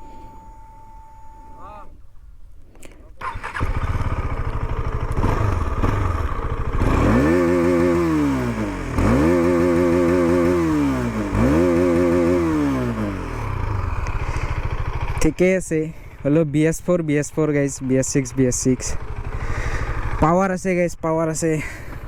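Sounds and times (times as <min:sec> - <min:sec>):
motorcycle engine idling and revving: 0:03.2 - 0:22.0.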